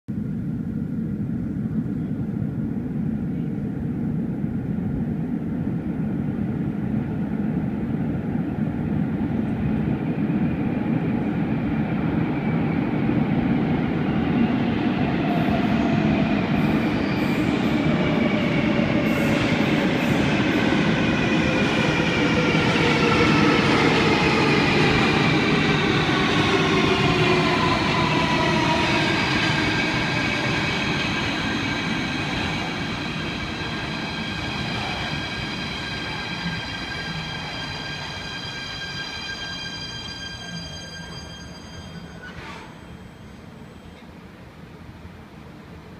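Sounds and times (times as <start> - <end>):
electric train rumbling in tunnel: 0.1 - 45.9.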